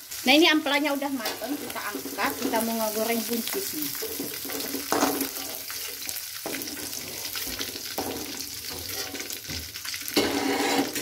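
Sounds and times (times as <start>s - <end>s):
oil sizzling in a wok: 0.0s - 11.0s
metal spatula scraping pan: 1.2s - 11.0s.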